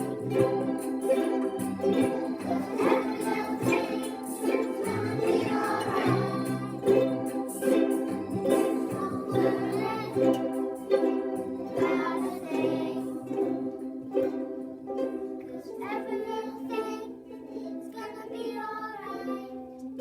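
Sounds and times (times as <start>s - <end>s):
children singing: 0.0s - 20.0s
children strumming ukuleles: 0.0s - 20.0s.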